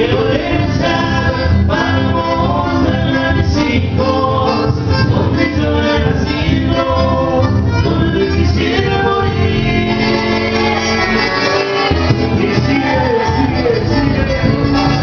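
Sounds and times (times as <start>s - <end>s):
man singing into microphone: 0.0s - 11.0s, 12.0s - 15.0s
accordion and guitars playing: 0.0s - 15.0s.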